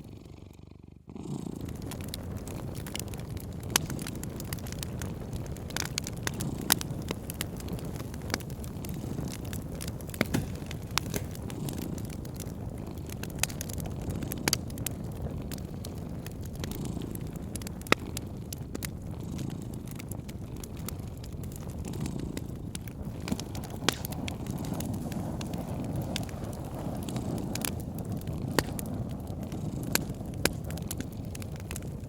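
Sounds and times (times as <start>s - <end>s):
cat purring: 0.0s - 32.0s
wood fire crackling and popping: 0.5s - 32.0s.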